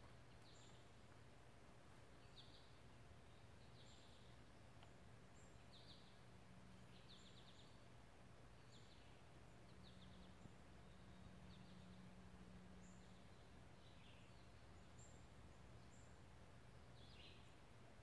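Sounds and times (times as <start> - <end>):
small bird chirping: 0.0 - 1.2, 2.0 - 7.9, 8.5 - 17.7
faint steady low hum: 0.0 - 18.0.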